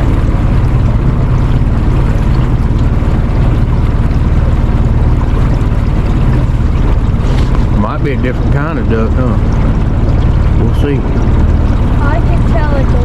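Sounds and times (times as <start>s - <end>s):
small boat motor running: 0.0s - 13.0s.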